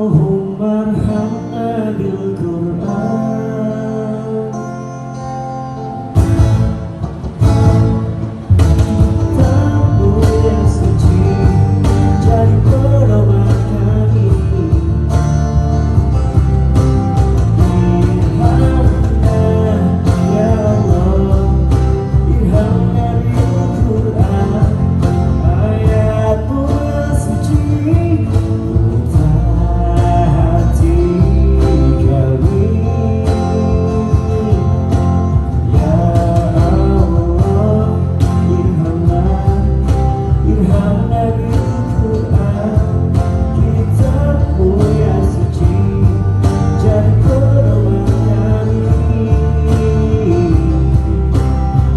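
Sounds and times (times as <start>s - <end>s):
person singing: 0.0s - 5.4s, 9.1s - 15.4s, 16.0s - 51.9s
bass guitar: 0.0s - 51.9s
guitar: 0.0s - 51.9s.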